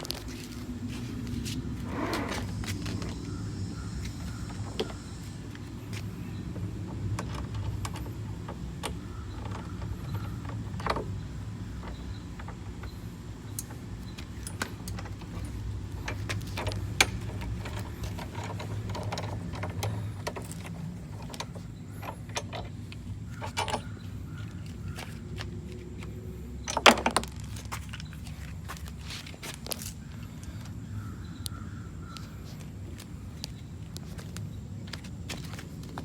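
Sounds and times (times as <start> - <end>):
handling clicks and knocks: 0.0 - 30.8
steady low hum: 0.0 - 36.0.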